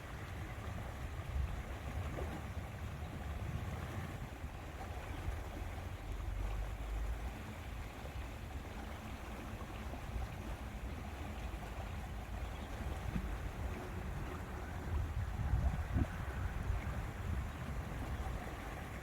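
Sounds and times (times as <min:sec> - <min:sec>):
small waves lapping: 0:00.0 - 0:19.0
wind rumble on microphone: 0:00.0 - 0:19.0.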